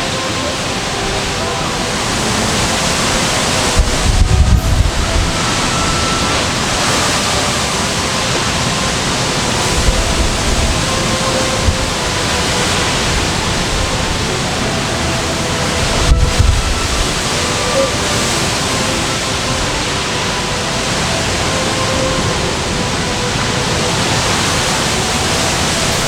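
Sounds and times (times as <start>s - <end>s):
gusts buffeting microphone: 0.0s - 26.0s
storm wind rushing: 0.0s - 26.0s
wind-driven rain: 0.0s - 26.0s.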